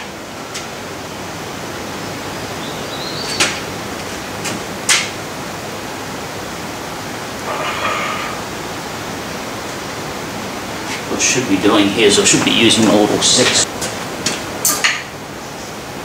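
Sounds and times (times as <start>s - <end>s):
workshop background hiss: 0.0s - 16.0s.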